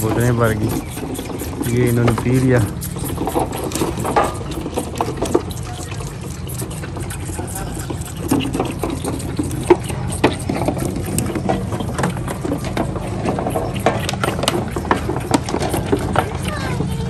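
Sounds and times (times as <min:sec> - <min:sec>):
feeding bottles clicking and knocking: 0:00.0 - 0:17.0.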